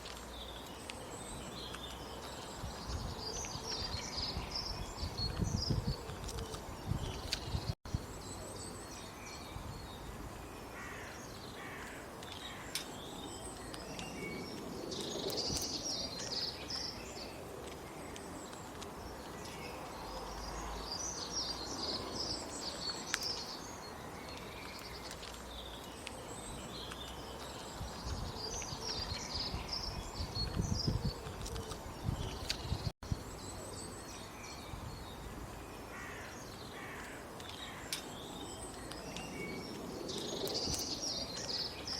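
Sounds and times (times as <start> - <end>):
birds calling and chirping: 0.0 - 41.9
outdoor background noise: 0.0 - 41.9.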